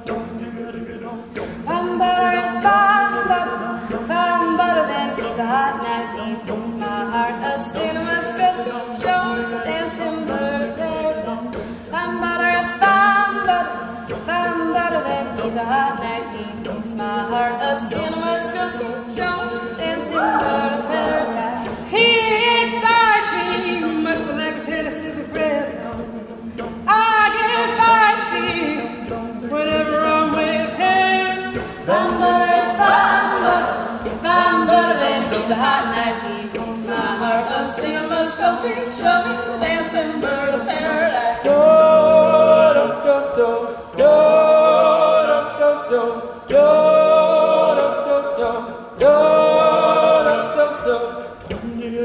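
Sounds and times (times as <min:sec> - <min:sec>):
a cappella group singing: 0:00.0 - 0:52.0.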